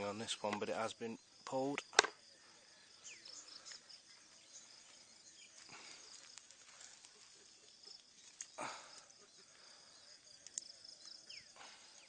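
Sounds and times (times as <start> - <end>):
insect chirps: 0.0 - 12.0
insects trilling: 0.0 - 12.0.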